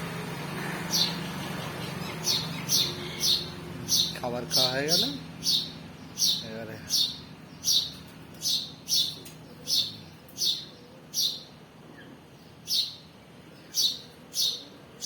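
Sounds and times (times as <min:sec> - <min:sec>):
small bird chirping: 0:00.8 - 0:14.7.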